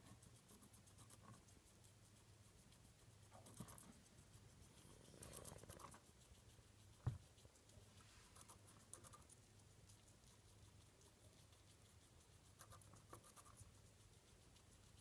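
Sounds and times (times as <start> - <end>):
mouse nibbling scratchy ticks: 0.0 - 15.0.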